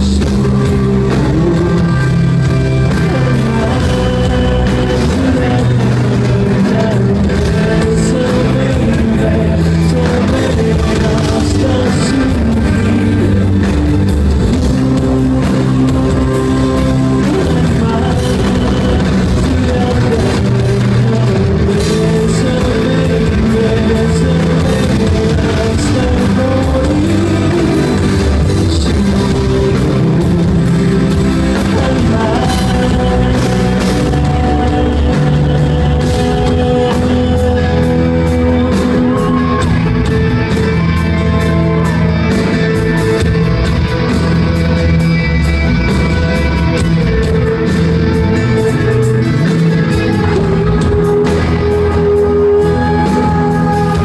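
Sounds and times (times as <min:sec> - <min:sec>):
live rock band playing: 0:00.0 - 0:54.0
man singing lead: 0:00.0 - 0:54.0.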